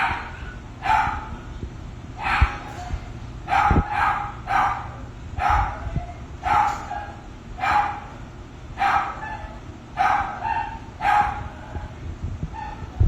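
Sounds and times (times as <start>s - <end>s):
dog barking: 0.0s - 1.5s, 2.2s - 13.0s.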